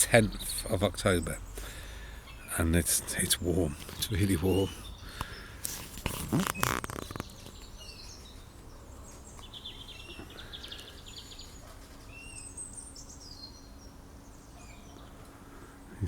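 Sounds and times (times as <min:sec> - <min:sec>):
road traffic rumble: 0:00.0 - 0:16.0
songbirds chirping and twittering: 0:00.0 - 0:16.0.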